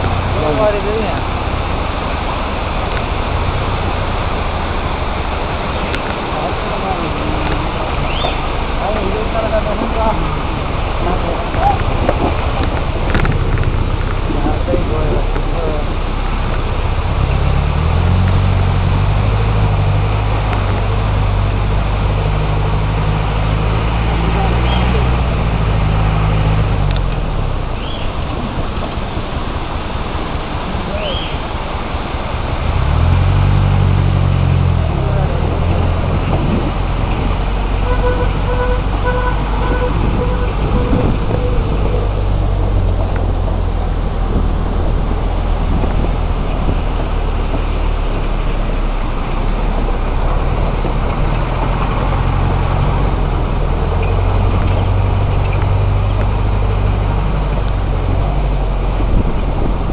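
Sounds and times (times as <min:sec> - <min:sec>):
even rushing noise: 0:00.0 - 0:59.9
vehicle engine droning: 0:00.0 - 0:59.9.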